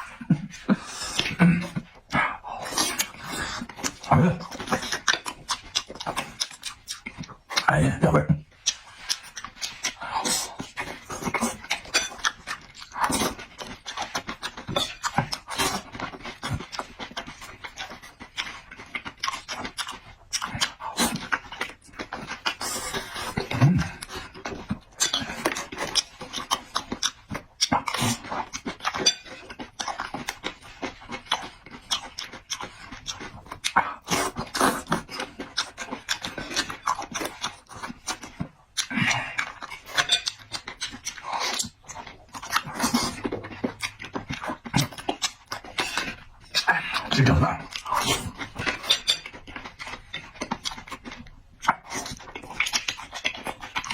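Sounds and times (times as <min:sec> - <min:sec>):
person chewing wetly: 0:00.0 - 0:53.9.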